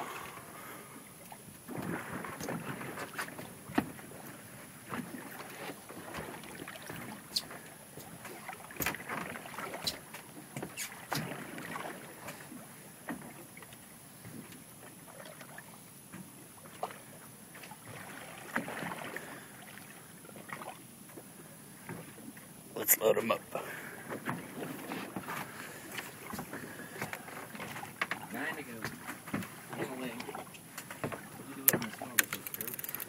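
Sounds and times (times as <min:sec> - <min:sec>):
water noise: 0:00.0 - 0:33.0.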